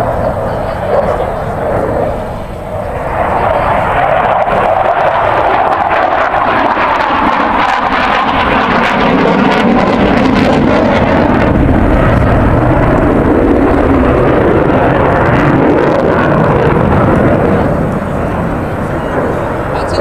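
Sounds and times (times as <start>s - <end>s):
fighter jet flying overhead: 0.0s - 20.0s.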